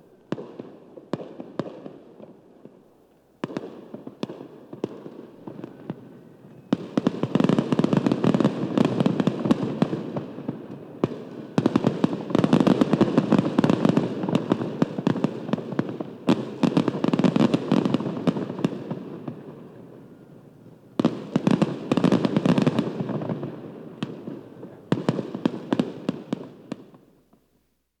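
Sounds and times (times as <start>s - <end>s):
distant fireworks crackling: 0.0s - 27.5s.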